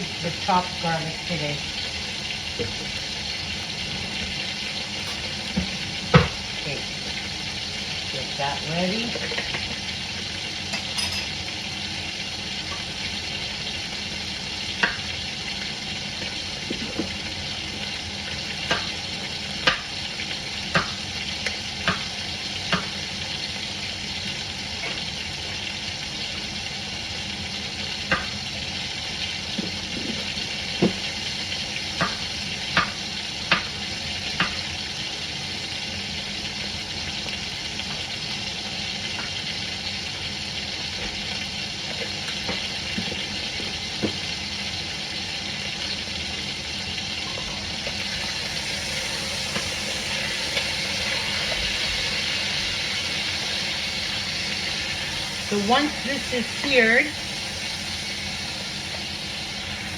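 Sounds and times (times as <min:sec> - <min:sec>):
meat sizzling in oil: 0:00.0 - 0:59.9.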